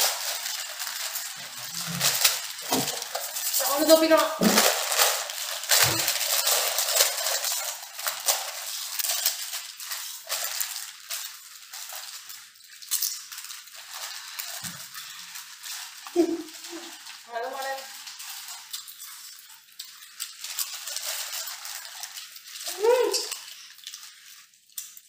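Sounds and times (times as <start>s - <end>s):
chip packets crinkling and tearing: 0.0s - 25.0s.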